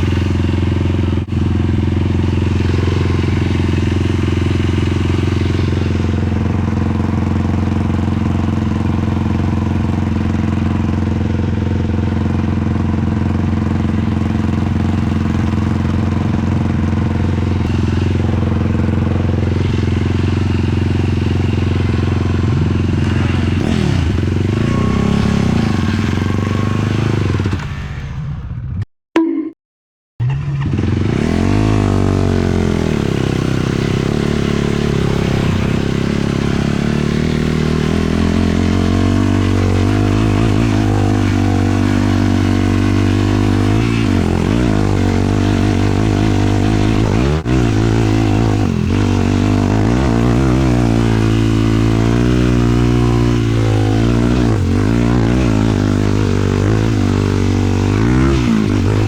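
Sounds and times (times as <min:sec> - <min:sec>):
quad engine revving: 0:00.0 - 0:28.0, 0:30.2 - 0:59.0.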